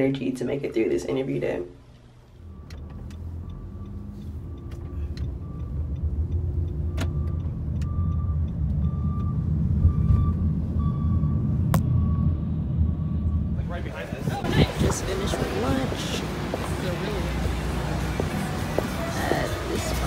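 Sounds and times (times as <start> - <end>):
car engine and road rumble: 1.8 - 20.0.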